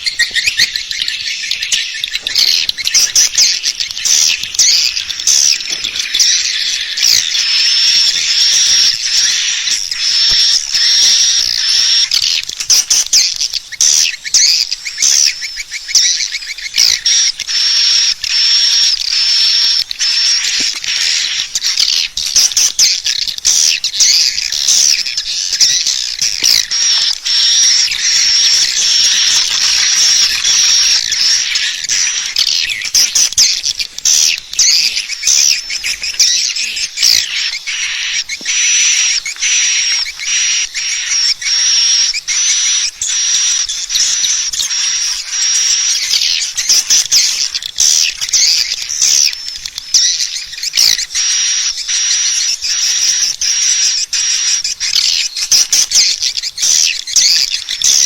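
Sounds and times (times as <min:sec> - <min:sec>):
swiftlet call chittering and clicks: 0:00.0 - 0:58.0.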